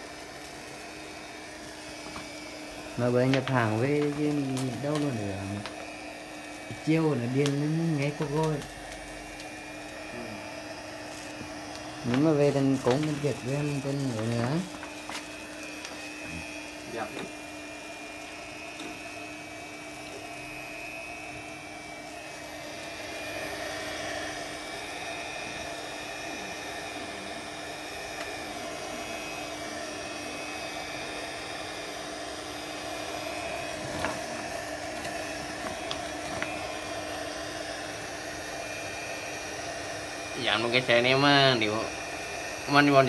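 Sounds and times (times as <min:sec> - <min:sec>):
heat gun fan humming: 0:00.0 - 0:43.0.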